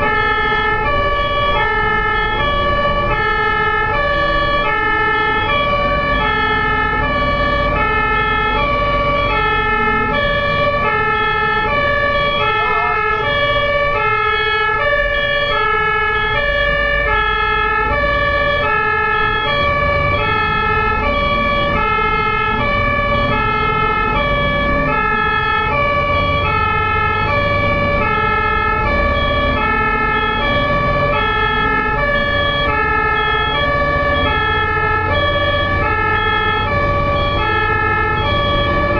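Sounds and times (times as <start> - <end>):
two-tone ambulance siren: 0.0 - 38.9
vehicle engine and road noise: 0.0 - 38.9.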